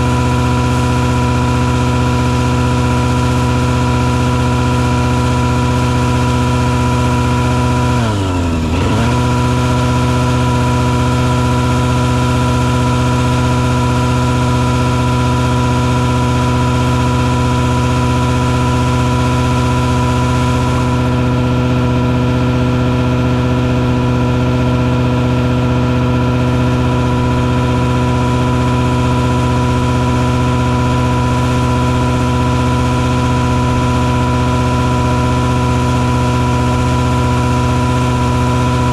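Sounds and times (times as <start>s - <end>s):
truck engine running steadily: 0.0s - 38.9s.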